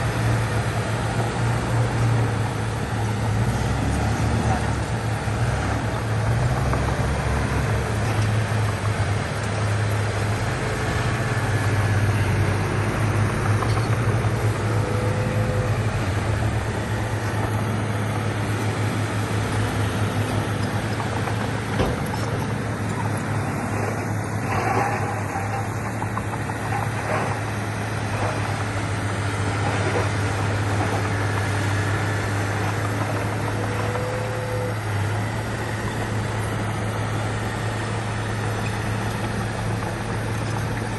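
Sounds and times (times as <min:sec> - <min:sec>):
heavy diesel engine humming: 0:00.0 - 0:40.9.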